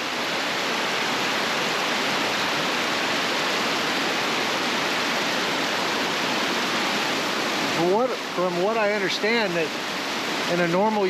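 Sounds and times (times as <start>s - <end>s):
creek rushing over rock: 0.0s - 11.0s.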